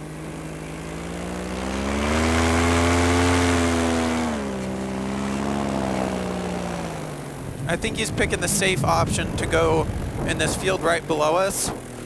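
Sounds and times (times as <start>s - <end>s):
paramotor engine and propeller: 0.0s - 12.0s.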